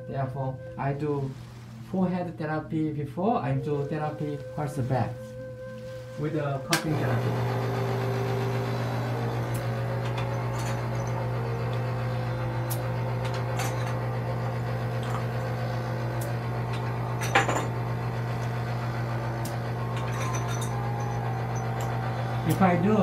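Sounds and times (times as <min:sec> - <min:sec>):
low hum: 0:03.8 - 0:23.0.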